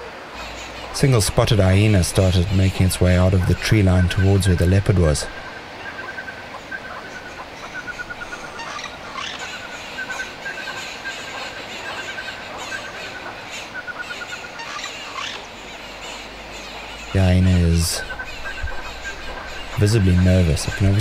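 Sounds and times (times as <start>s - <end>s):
bird trills: 0.3s - 21.0s
falling whistled bird calls: 1.8s - 21.0s.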